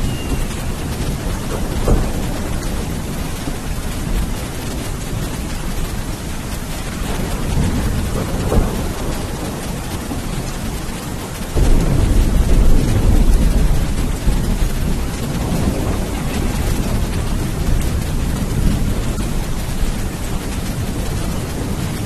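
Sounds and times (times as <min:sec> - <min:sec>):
rolling thunder: 0:00.0 - 0:22.0
steady rain: 0:00.0 - 0:22.0.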